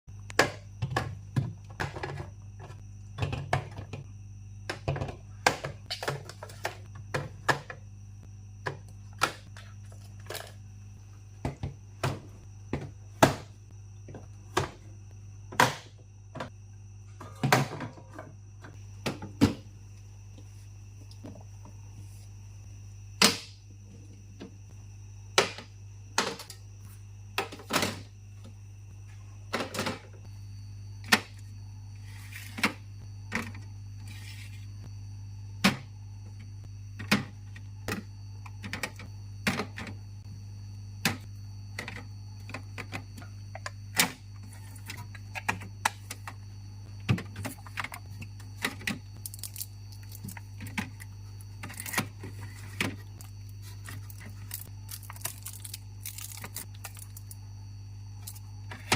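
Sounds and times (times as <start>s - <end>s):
refrigerator hum: 0.1s - 58.9s.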